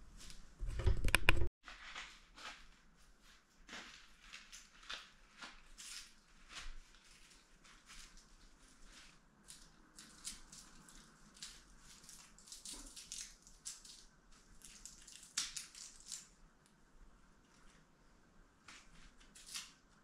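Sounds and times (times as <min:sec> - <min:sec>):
crinkling and rustling of materials: 0:00.0 - 0:16.7, 0:18.6 - 0:20.0.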